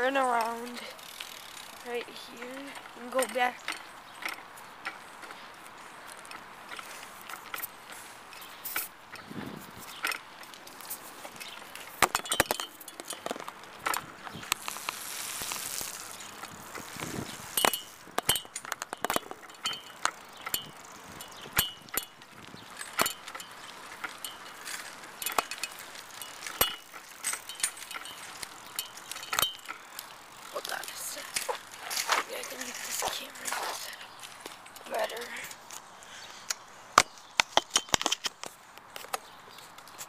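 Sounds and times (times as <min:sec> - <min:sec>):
bike metal parts rattling: 0:00.0 - 0:40.0.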